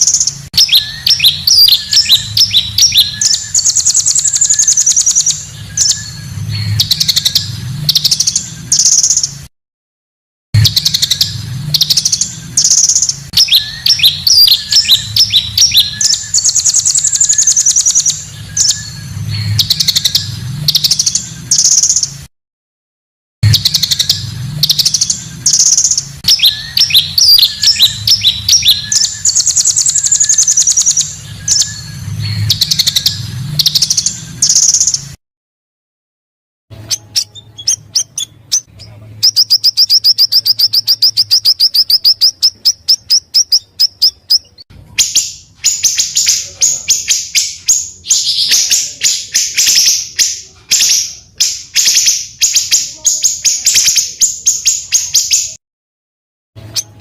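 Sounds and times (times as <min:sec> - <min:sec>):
rapid bird trill: 0:00.0 - 0:09.5, 0:10.6 - 0:22.3, 0:23.4 - 0:35.2, 0:36.7 - 0:55.6
songbirds chirping: 0:00.0 - 0:09.5, 0:10.6 - 0:22.3, 0:23.4 - 0:35.2, 0:36.7 - 0:55.6, 0:56.6 - 0:57.0.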